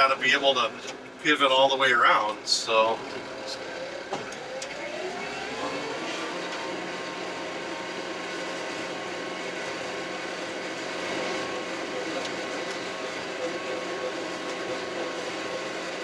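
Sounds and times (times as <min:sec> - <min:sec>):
tractor diesel engine revving: 0:02.5 - 0:16.0.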